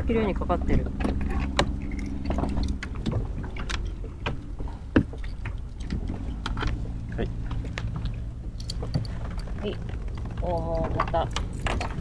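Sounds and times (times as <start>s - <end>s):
water and wind around hull: 0.0s - 12.0s
fishing tackle clicks and knocks: 0.9s - 12.0s.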